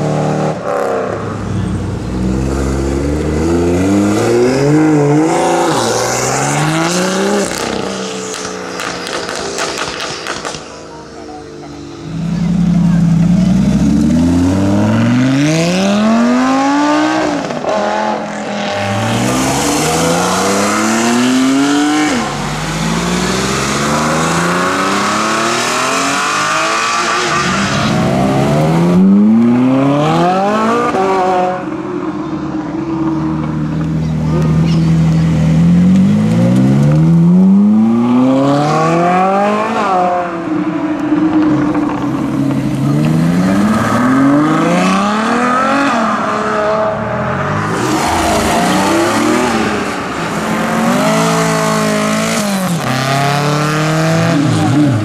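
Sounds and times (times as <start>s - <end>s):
rushing tyre noise: 0.0s - 55.0s
sports cars accelerating past: 0.0s - 55.0s.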